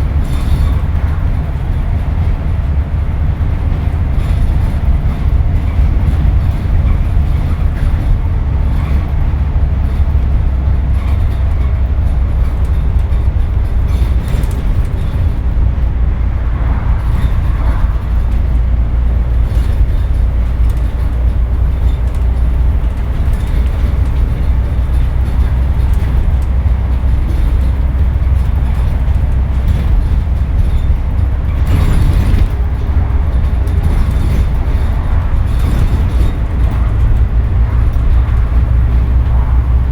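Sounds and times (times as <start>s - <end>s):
bus diesel engine drone: 0.0s - 39.9s
cabin noise: 0.0s - 39.9s
road rumble: 0.0s - 39.9s.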